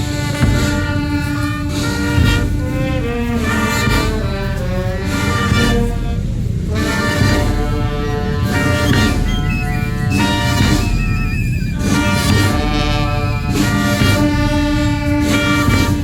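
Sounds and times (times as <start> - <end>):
brass band funeral march: 0.0 - 16.0.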